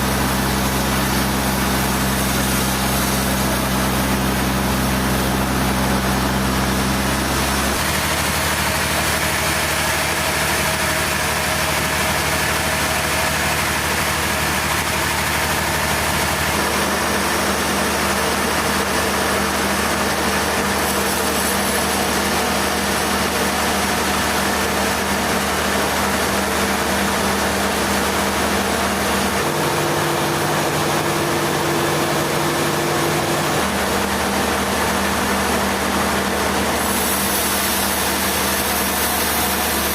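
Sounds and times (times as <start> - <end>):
sawmill machinery engine humming: 0.0 - 39.9.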